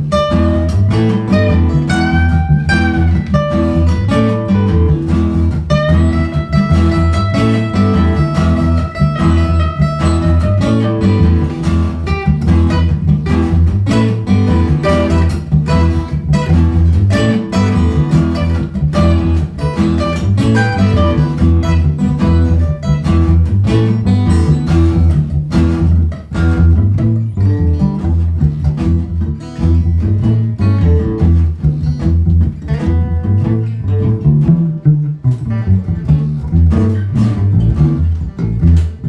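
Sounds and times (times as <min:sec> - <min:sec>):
plucked acoustic guitar: 0:00.0 - 0:39.0
steady bass line: 0:00.0 - 0:39.0.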